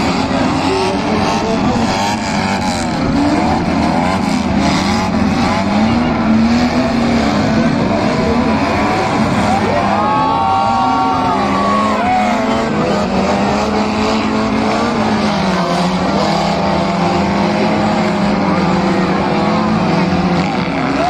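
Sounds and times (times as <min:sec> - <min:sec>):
car engines revving: 0:00.0 - 0:21.0
steady engine drone: 0:00.0 - 0:21.0.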